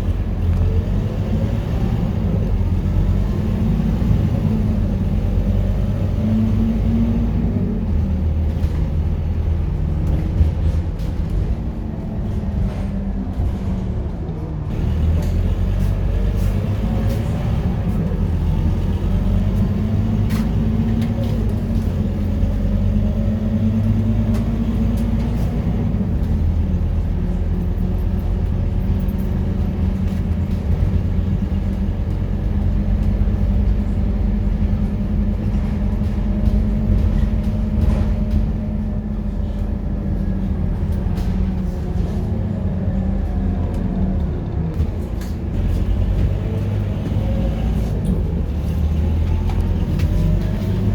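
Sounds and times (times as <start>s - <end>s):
bus diesel engine running: 0.0s - 50.9s.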